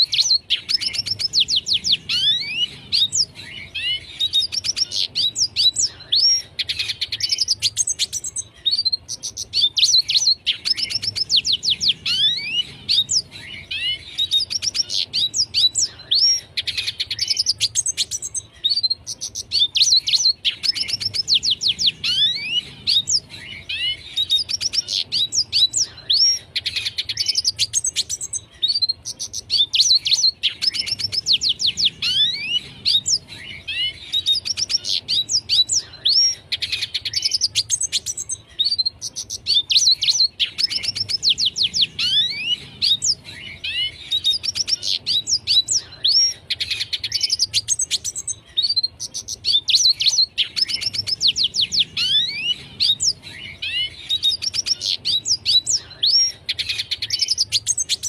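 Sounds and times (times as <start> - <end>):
bird twittering song: 0.0 - 58.0.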